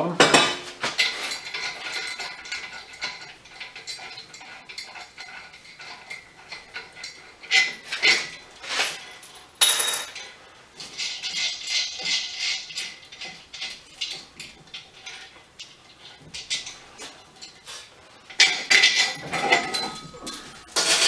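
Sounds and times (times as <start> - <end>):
steel parts clinking and rattling: 0.4 - 21.0.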